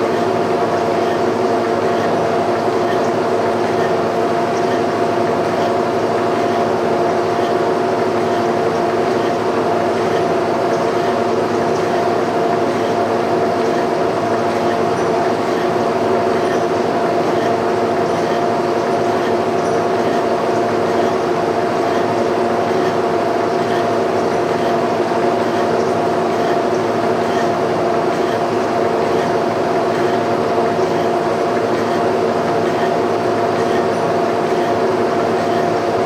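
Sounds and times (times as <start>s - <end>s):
boring machine humming: 0.0s - 36.0s.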